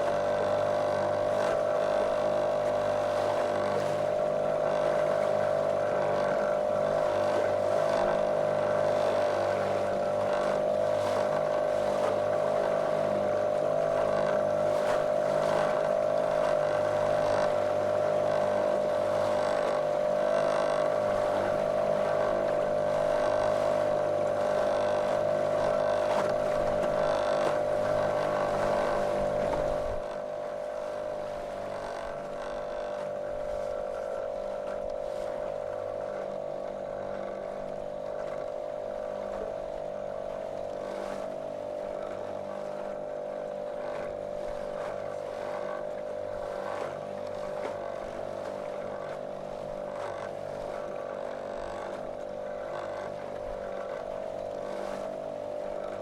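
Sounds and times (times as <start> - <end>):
motorboat motor droning: 0.0 - 56.0.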